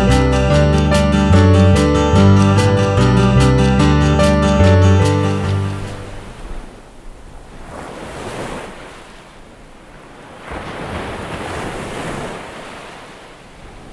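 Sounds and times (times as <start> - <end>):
ocean waves surging: 0.0 - 13.9.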